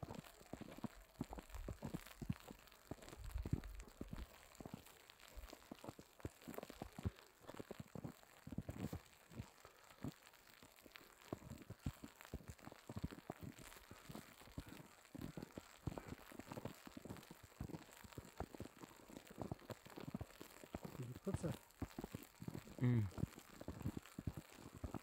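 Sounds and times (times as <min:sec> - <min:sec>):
wet snow pattering on umbrella: 0:00.0 - 0:25.0.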